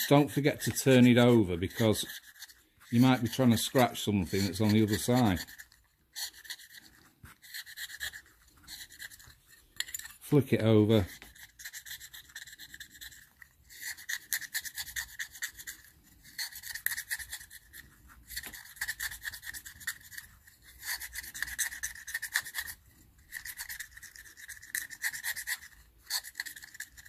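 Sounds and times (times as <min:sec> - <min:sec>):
blade scraping glass: 0:00.0 - 0:17.7, 0:18.4 - 0:27.0.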